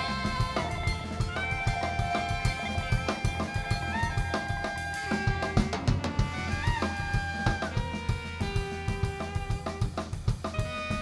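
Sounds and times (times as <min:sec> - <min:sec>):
jazz ensemble playing: 0:00.0 - 0:11.0.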